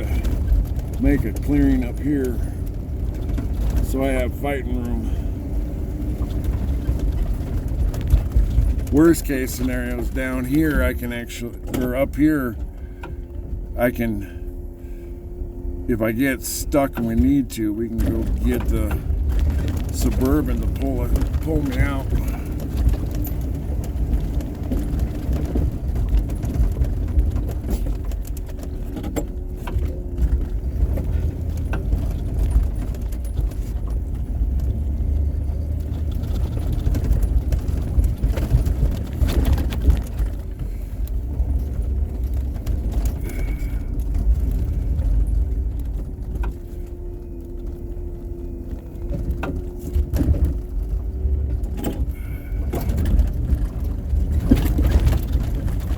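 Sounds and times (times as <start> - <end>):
knocks and rattles: 0.0 - 14.3, 16.2 - 55.9
snowplow engine rumbling: 0.0 - 55.9.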